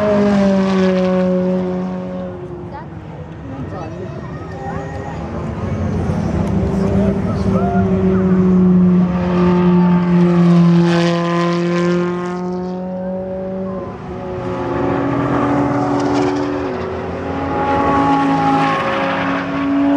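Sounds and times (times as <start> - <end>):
car engine accelerating: 0.0 - 19.9
higher engine note rising: 3.9 - 19.9.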